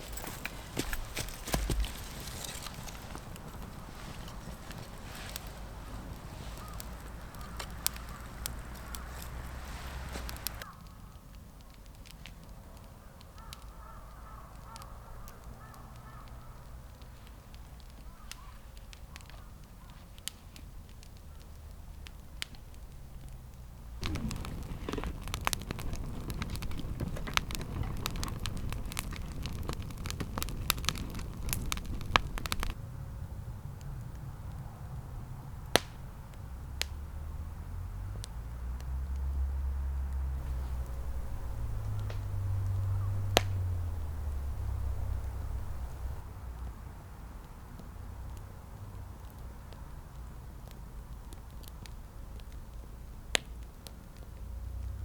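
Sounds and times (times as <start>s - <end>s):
dense crackling over hiss: 0.0s - 55.0s
sharp crackles and pops: 0.0s - 55.0s.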